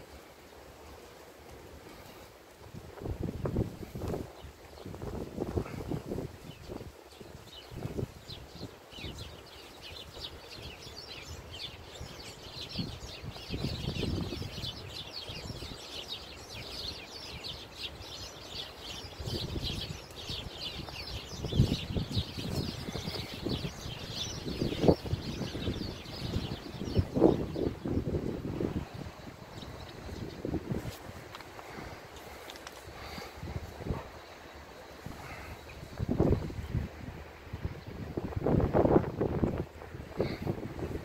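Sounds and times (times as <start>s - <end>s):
flock of birds chirping: 0.0s - 41.0s.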